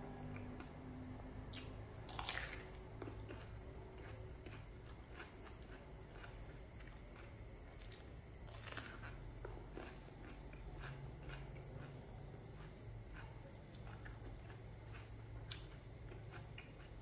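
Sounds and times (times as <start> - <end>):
wet chewing and mouth clicks: 1.6 - 17.0.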